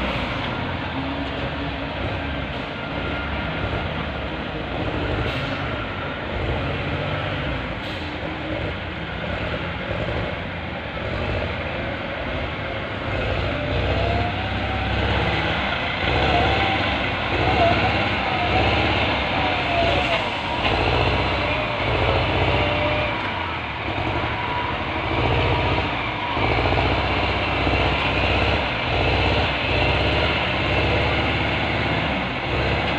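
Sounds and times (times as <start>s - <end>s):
heavy truck engine rumbling: 0.0s - 32.9s.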